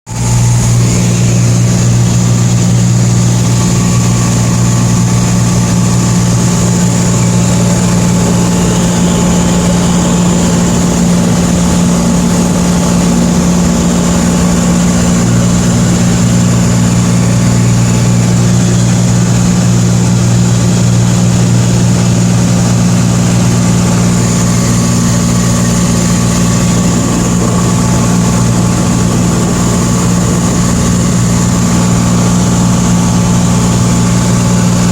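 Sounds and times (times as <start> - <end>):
aircraft propeller engine droning: 0.1 - 34.9.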